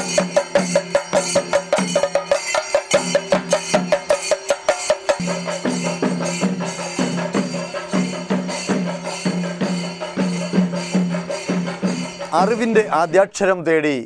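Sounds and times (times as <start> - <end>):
drums beaten with sticks: 0.0 - 13.4.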